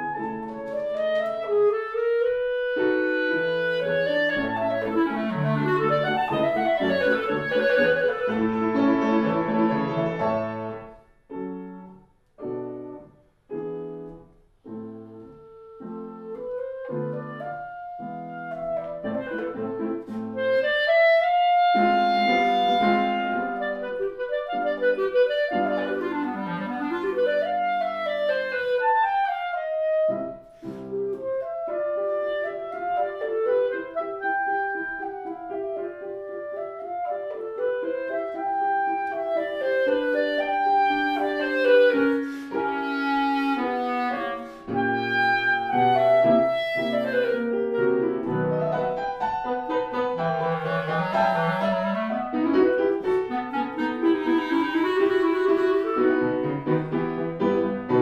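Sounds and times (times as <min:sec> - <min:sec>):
clarinet melody: 0:00.0 - 0:58.0
grand piano: 0:00.0 - 0:58.0.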